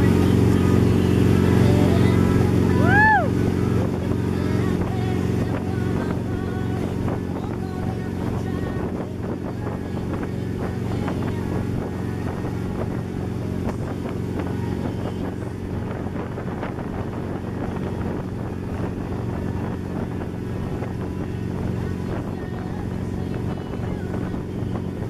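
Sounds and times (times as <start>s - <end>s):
boat engine running: 0.0s - 25.0s
churning wake water: 0.0s - 25.0s
wind on microphone: 0.0s - 25.0s.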